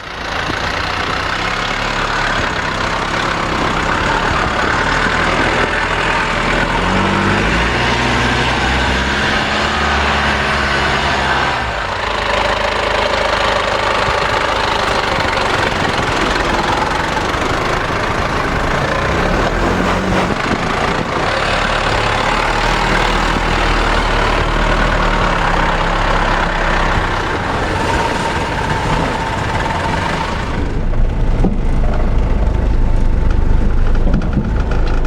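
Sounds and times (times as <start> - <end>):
tyre and road noise: 0.0 - 35.0
vehicle engine at low revs: 0.0 - 35.0.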